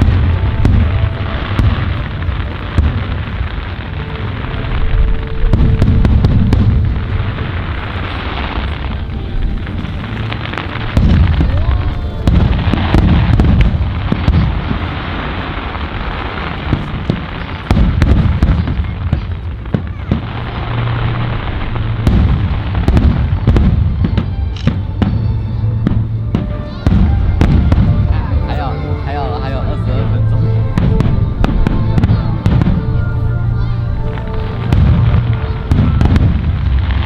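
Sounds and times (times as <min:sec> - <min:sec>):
fireworks booming: 0:00.0 - 0:37.0
fireworks crackling: 0:00.0 - 0:37.0.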